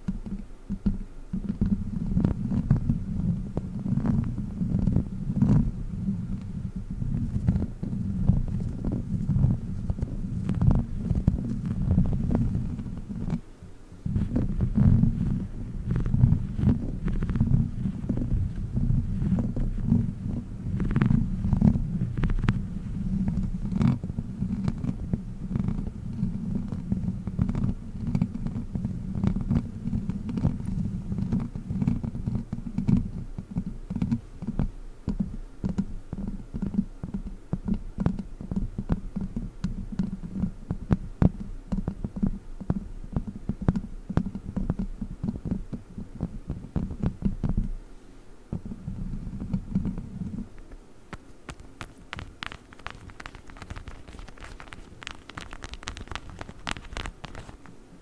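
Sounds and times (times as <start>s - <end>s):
fingertips scratching microphone: 0.0s - 47.8s, 48.5s - 57.8s.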